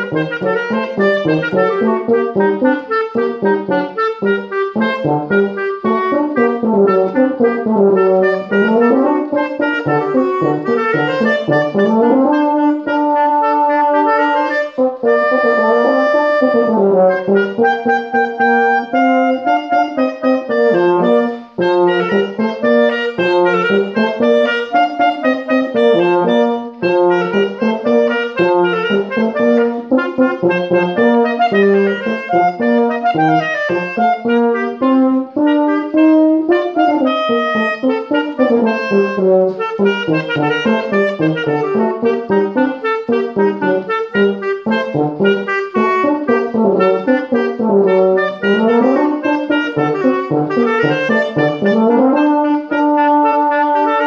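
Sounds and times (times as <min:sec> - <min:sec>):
clarinet and horn duet: 0:00.0 - 0:54.0.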